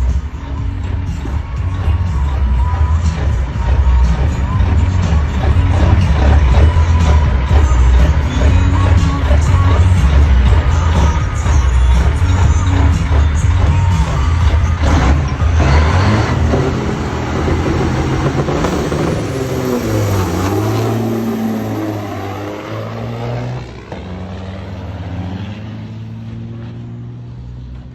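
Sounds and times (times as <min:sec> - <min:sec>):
diesel truck engine running hard: 0:00.0 - 0:27.9.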